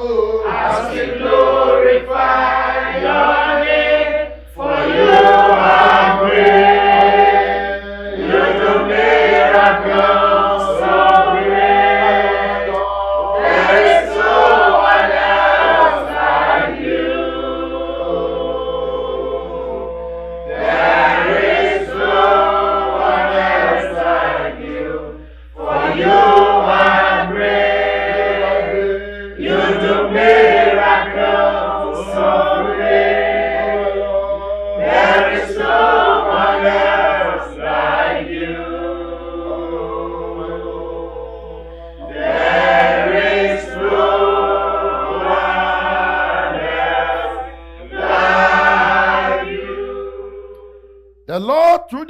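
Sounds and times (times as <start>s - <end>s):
voices singing praise song: 0.0s - 52.0s.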